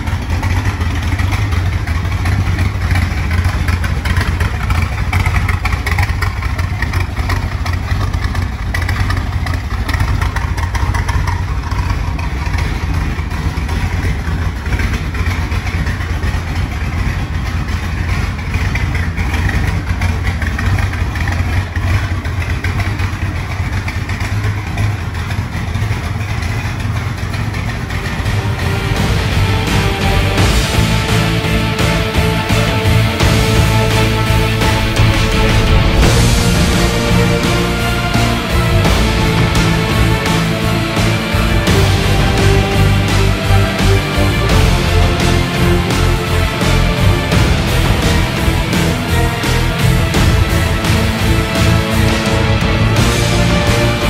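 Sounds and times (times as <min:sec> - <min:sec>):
car engine idling with deep rumble: 0:00.0 - 0:54.0.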